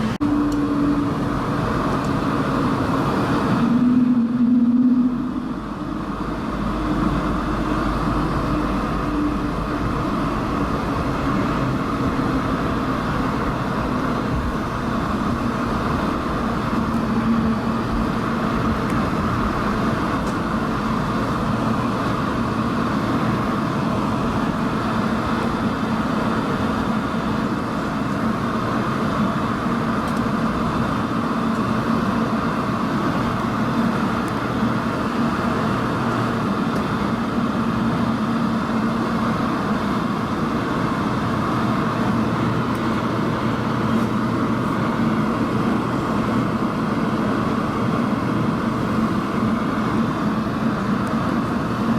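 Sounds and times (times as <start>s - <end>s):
faint steady hum: 0.0s - 51.9s
jet engine and airflow noise: 0.0s - 51.9s.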